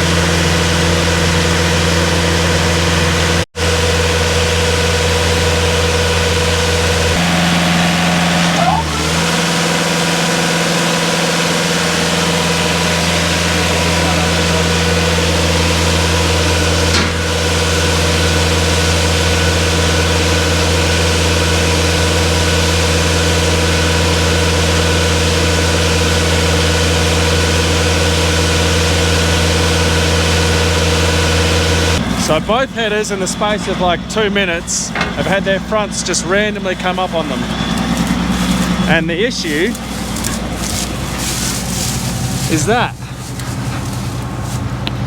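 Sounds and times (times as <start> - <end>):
farm machinery engine running: 0.0 - 45.0.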